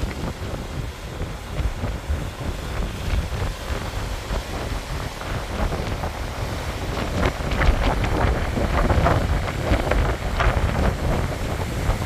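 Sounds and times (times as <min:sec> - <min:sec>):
sea waves breaking: 0:00.0 - 0:12.0
surf splashes: 0:00.0 - 0:12.0
wind buffeting microphone: 0:00.0 - 0:12.0.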